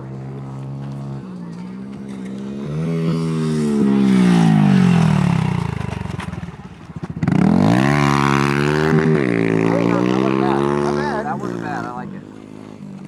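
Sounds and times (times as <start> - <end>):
pit bike engine revving: 2.0 - 13.0.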